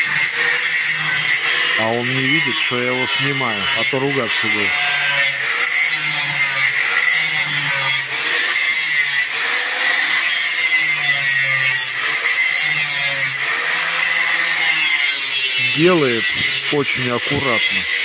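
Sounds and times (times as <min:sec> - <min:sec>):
metal being sawn or filed: 0:00.0 - 0:18.0.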